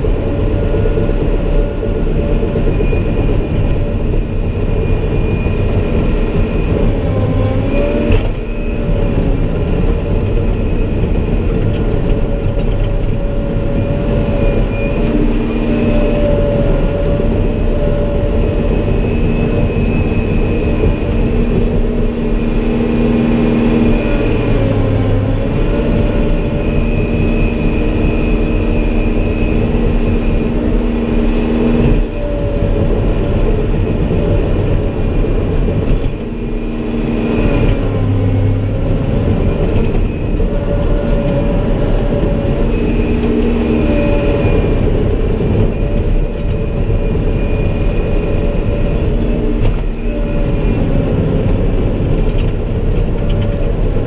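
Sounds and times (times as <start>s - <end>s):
diesel engine under load: 0.0s - 54.0s
wavering machine whine: 0.0s - 54.0s.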